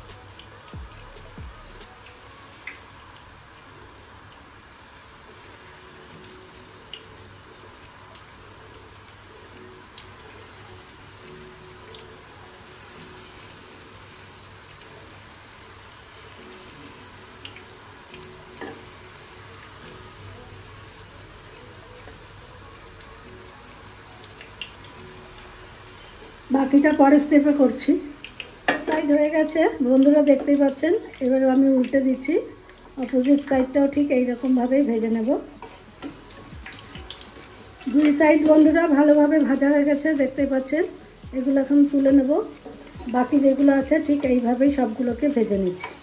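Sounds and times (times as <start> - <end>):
food sizzling in hot oil: 0.0 - 46.0.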